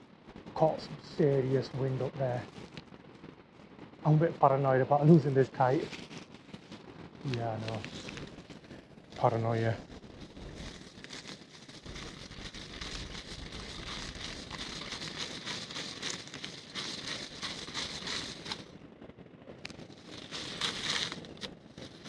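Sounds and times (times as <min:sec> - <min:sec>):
crackling rustle: 0:00.0 - 0:22.0
wind buffeting microphone: 0:00.3 - 0:22.0.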